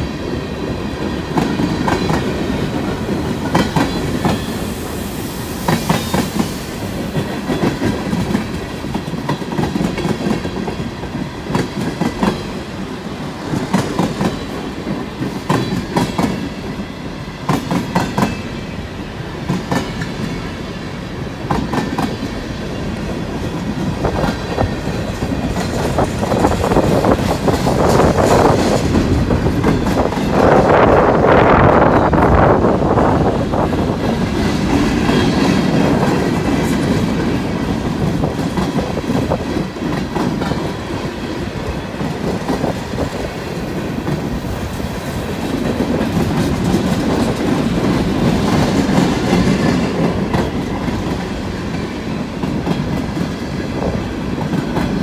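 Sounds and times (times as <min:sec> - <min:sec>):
rumble of train cars: 0:00.0 - 0:55.0.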